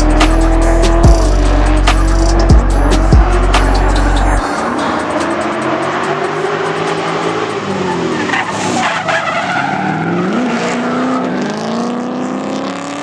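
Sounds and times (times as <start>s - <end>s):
car engines revving: 0.0s - 13.0s
tyres squealing on asphalt: 0.2s - 11.8s.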